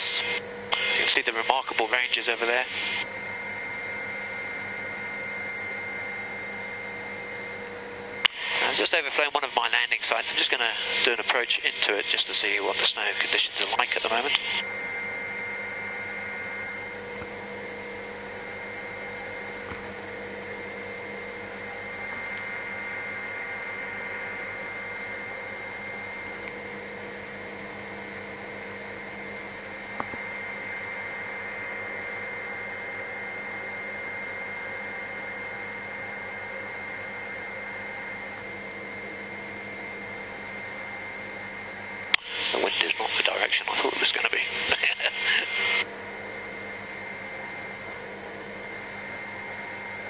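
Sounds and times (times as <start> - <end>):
helicopter engine and rotor hum: 0.0 - 50.0
high whine: 0.0 - 50.0.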